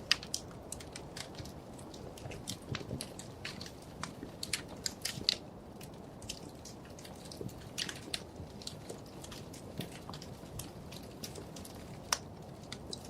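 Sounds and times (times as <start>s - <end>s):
soft steady hiss: 0.0s - 13.0s
wood fire crackling: 0.0s - 13.0s.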